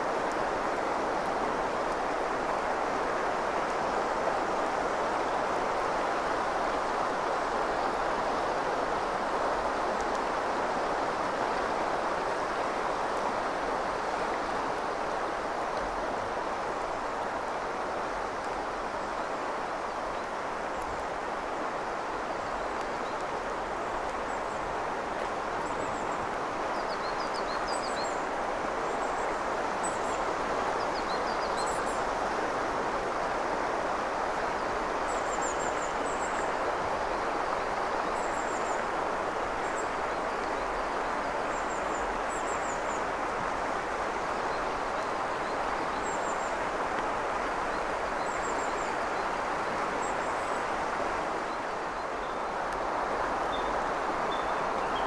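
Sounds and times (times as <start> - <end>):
river running over stones: 0.0 - 55.0.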